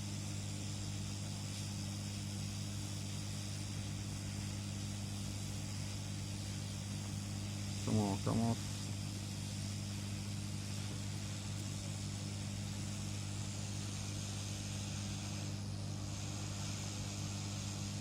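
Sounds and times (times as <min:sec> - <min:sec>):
hiss: 0:00.0 - 0:18.0
low electrical hum: 0:00.0 - 0:18.0.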